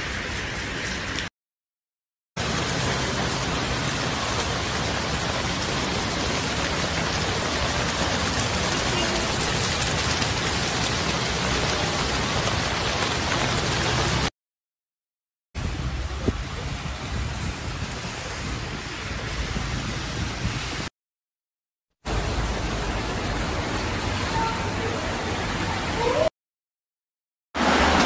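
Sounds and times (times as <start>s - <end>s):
torrential rain: 0.0s - 1.3s, 2.4s - 14.3s, 15.6s - 20.9s, 22.1s - 26.3s, 27.6s - 28.0s.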